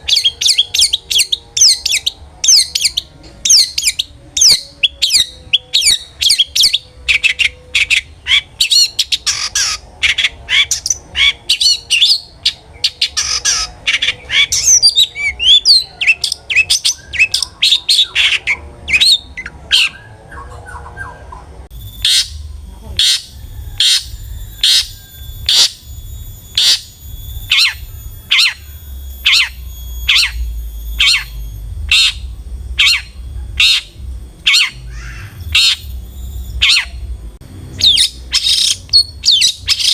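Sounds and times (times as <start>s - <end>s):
harsh repeated bird call: 0.0s - 39.9s
shrike chattering song: 0.0s - 39.9s.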